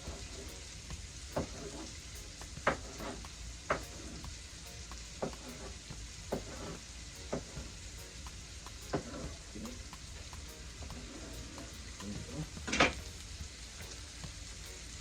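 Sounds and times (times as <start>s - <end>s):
vegetables sizzling in a pot: 0.0s - 15.0s
utensil scraping and knocking pot: 1.3s - 13.4s.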